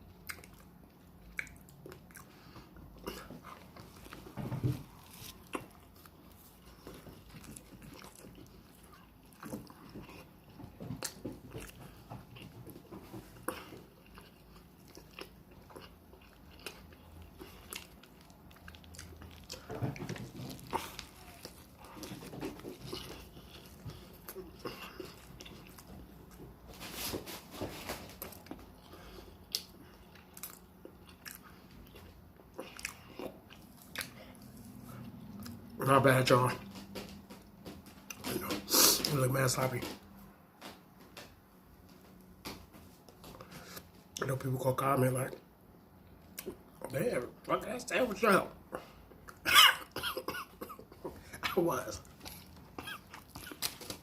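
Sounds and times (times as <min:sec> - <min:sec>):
person chewing a sandwich: 0:00.0 - 0:44.3, 0:45.3 - 0:47.0, 0:48.6 - 0:54.0.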